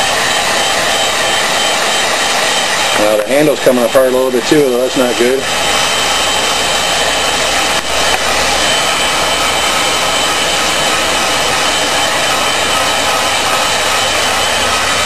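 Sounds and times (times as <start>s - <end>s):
heat gun blowing air: 0.0s - 15.0s.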